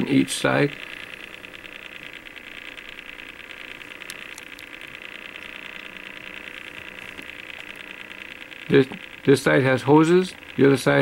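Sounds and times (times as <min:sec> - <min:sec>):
motorised turntable rattling whir: 0:00.0 - 0:11.0.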